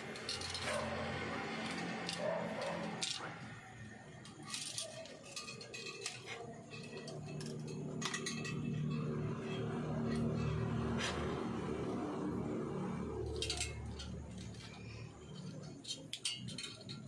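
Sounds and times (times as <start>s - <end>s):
wire clicks and clinks: 0.0s - 10.8s, 11.9s - 17.0s.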